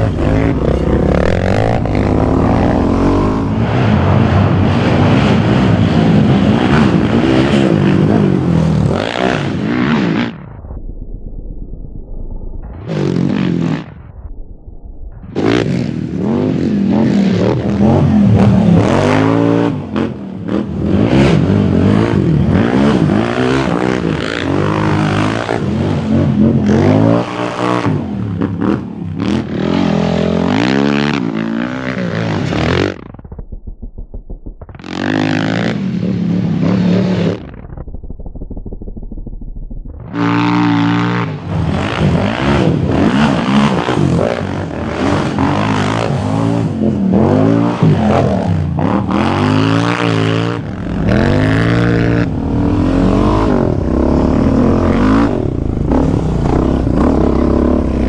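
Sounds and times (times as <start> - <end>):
quad bike engine revving: 0.0 - 10.2, 15.4 - 33.4, 34.7 - 38.6, 40.0 - 58.0.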